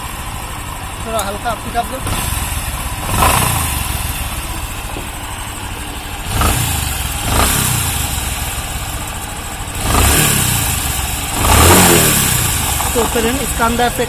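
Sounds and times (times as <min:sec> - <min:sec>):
growling noise inside engine: 0:00.0 - 0:14.0
motorcycle engine running: 0:00.0 - 0:14.0.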